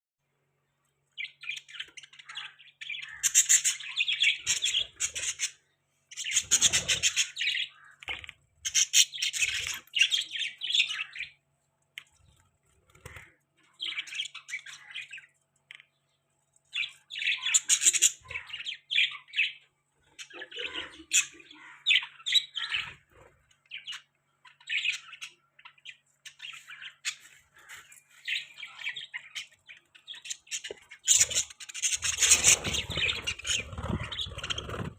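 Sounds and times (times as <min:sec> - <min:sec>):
budgerigars chirping and chattering: 0:01.2 - 0:11.4, 0:12.9 - 0:16.0, 0:16.7 - 0:34.9.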